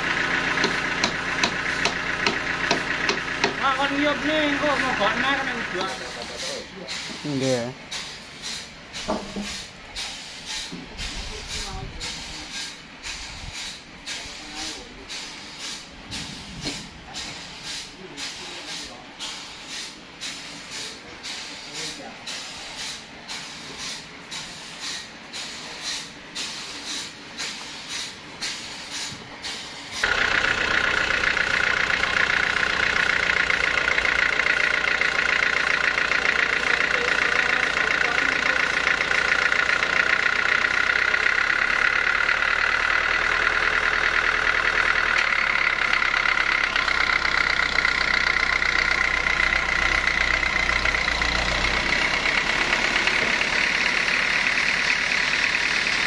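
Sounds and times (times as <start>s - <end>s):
machine engine rumble and whine: 0.0s - 56.0s.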